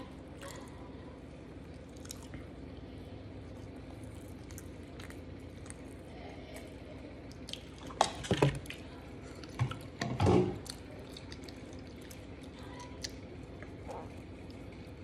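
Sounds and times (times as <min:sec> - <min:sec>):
wet chewing and lip-smacking: 0:00.0 - 0:10.0, 0:10.6 - 0:15.0.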